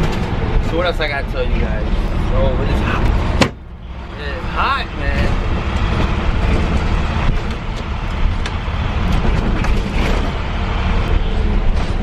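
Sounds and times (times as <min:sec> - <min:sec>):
bus body rattles and clicks: 0:00.0 - 0:12.0
bus engine and road rumble: 0:00.0 - 0:12.0.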